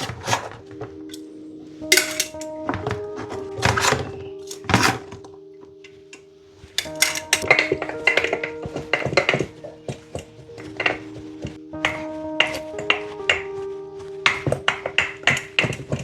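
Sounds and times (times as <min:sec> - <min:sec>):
background music with held notes: 0:00.0 - 0:16.0.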